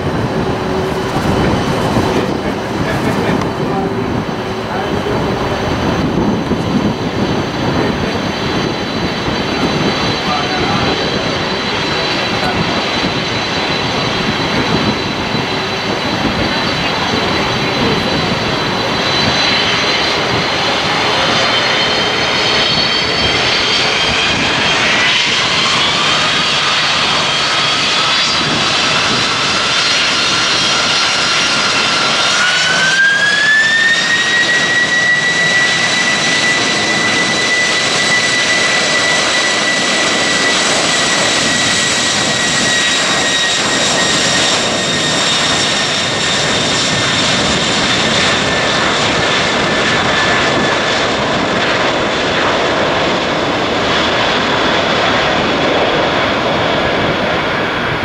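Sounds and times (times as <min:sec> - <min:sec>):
jet engine fan whine: 0:00.0 - 0:58.0
jet engines spooling up: 0:00.0 - 0:58.0.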